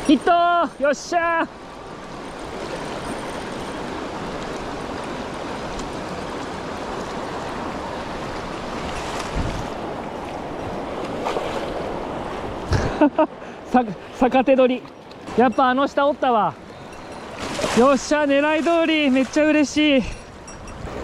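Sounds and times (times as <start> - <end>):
stream rushing over rocks: 0.0 - 12.8, 13.6 - 21.0.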